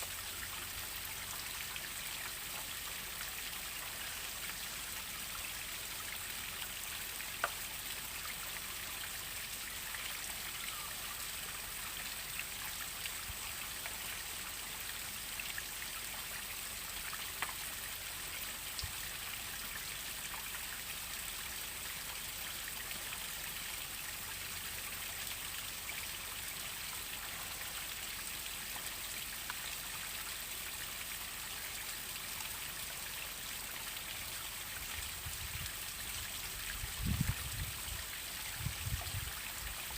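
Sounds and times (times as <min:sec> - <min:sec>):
small waterfall splashing: 0:00.0 - 0:39.9
water drips: 0:00.0 - 0:39.9.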